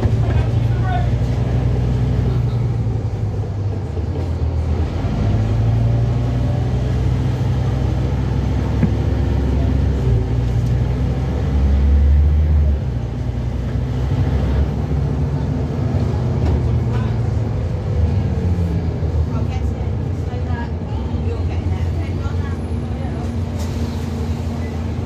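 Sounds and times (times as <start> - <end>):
bus diesel engine droning: 0.0 - 25.0.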